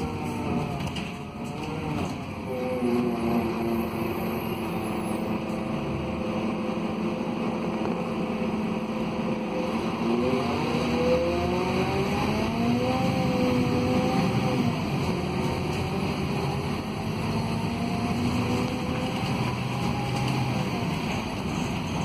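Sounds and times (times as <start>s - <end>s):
bus diesel engine accelerating: 0.0s - 22.0s.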